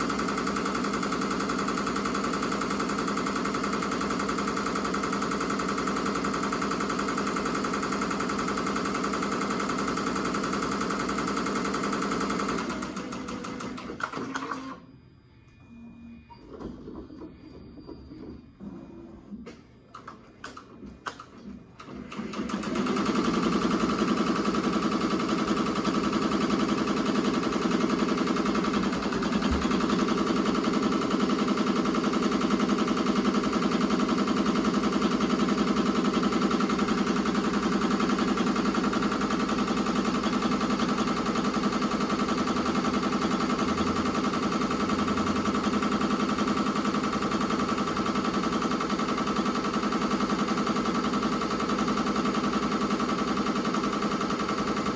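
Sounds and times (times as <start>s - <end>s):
embroidery machine stitching rattle: 0.0s - 14.8s, 21.8s - 54.9s.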